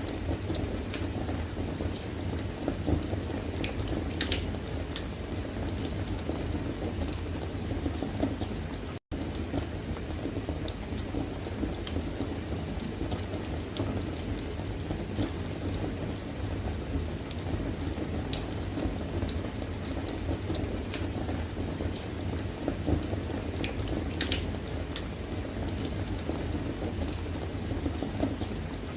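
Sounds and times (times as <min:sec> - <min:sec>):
low fire rumble: 0:00.0 - 0:28.9
fire crackling and popping: 0:00.1 - 0:28.9.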